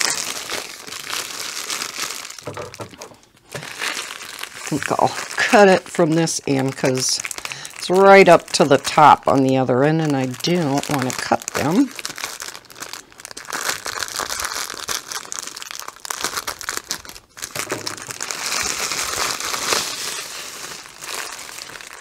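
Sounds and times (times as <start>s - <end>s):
plastic mailer crinkling: 0.0s - 22.0s
plastic-wrapped kits rustling: 0.0s - 22.0s.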